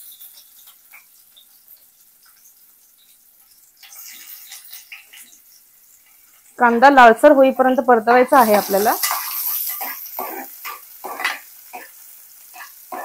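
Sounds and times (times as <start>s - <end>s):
spoon scraping a pan: 0.0s - 6.5s, 8.4s - 13.0s
onion sizzling in oil: 0.0s - 13.0s.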